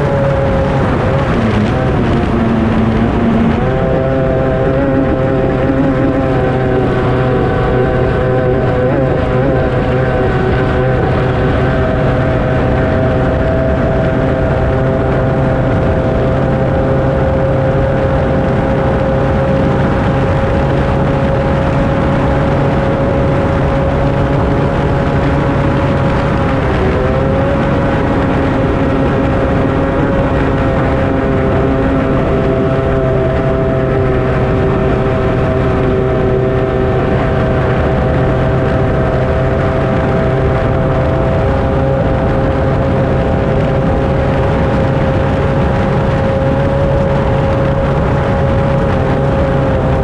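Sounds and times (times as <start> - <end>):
high-pitched outboard engine: 0.0 - 50.0
rushing wind and water: 0.0 - 50.0.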